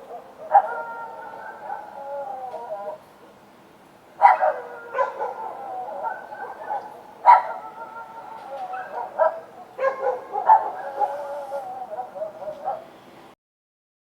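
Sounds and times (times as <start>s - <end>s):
dogs barking: 0.0s - 3.0s, 4.2s - 13.0s
drawn-out wavering cries: 0.0s - 3.1s, 4.2s - 13.4s.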